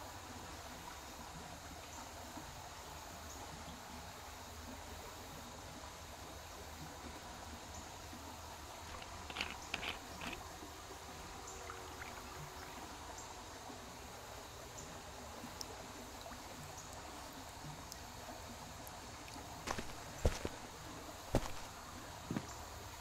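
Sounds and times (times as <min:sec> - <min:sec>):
trickling stream water: 0:00.0 - 0:23.0.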